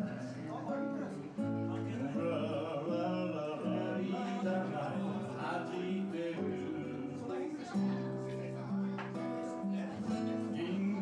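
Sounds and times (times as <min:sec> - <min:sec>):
acoustic guitar: 0:00.0 - 0:11.0
man singing: 0:00.0 - 0:11.0.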